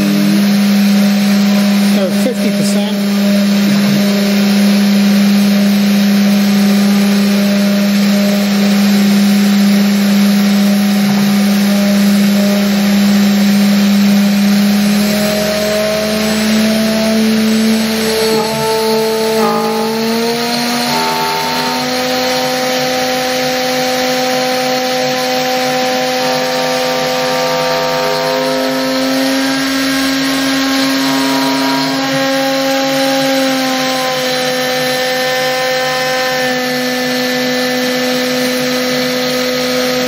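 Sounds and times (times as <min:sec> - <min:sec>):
cnc router whining: 0:00.0 - 0:40.0.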